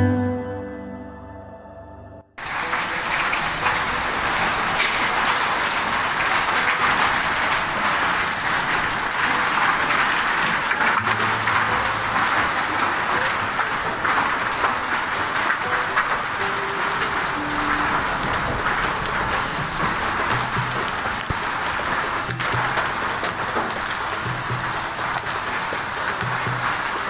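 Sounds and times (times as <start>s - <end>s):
heavy rain on concrete and roof: 2.4s - 27.0s.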